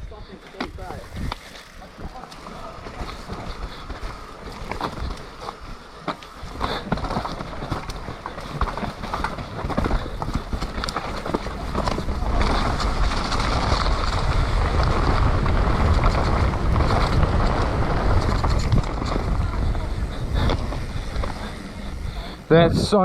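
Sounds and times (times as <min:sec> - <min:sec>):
bike knocking and rattling: 0:00.0 - 0:23.0
rushing tyres and wind: 0:00.0 - 0:23.0.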